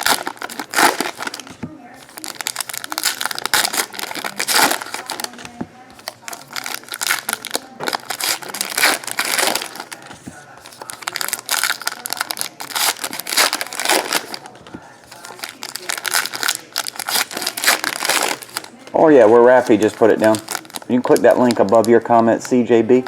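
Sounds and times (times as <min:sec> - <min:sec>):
card pack wrappers tearing and crinkling: 0:00.0 - 0:22.6.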